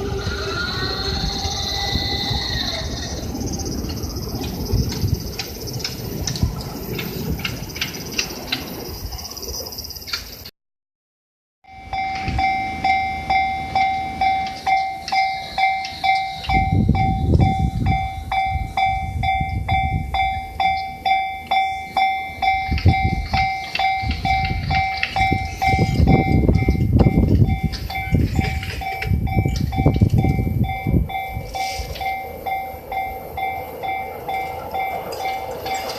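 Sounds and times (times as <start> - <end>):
level crossing warning bell ringing: 0.0 - 10.1, 11.6 - 35.9
electric train rumbling: 0.0 - 10.5, 11.7 - 35.9.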